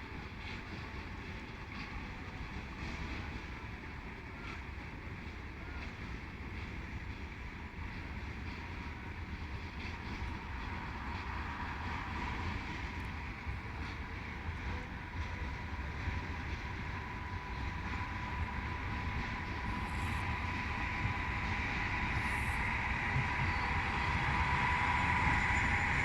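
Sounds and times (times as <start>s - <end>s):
diesel locomotive rumbling: 0.0s - 26.0s.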